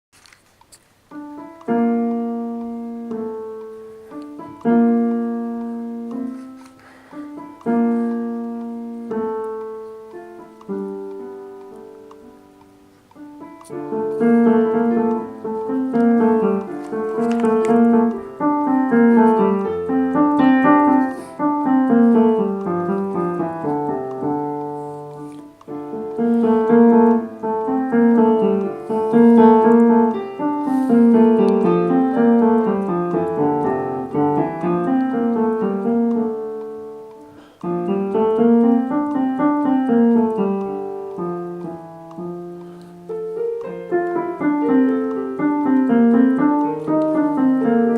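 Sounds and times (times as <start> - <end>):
piano playing: 1.0 - 47.9.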